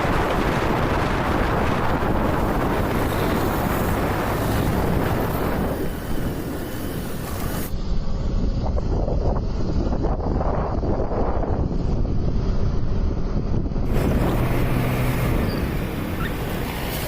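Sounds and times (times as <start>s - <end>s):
road and vehicle noise: 0.0s - 17.0s
wind buffeting microphone: 0.0s - 17.0s.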